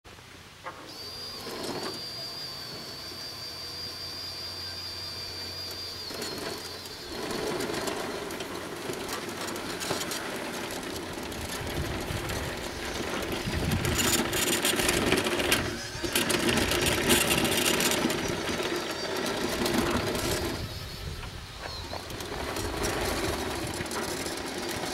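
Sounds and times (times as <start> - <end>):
toy bulldozer whirring and clatter: 0.6 - 24.9.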